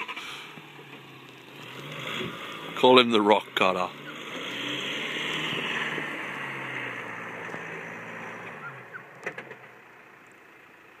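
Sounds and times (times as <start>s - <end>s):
engine running low: 0.0s - 11.0s.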